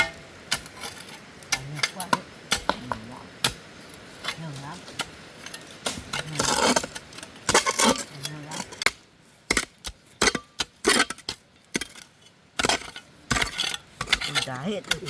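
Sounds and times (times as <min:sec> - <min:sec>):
digging tool striking stony ground: 0:00.0 - 0:03.7, 0:04.3 - 0:15.0.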